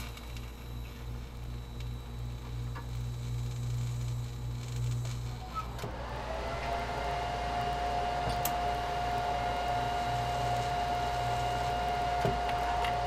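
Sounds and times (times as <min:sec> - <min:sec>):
welding arc humming: 0:00.0 - 0:13.0.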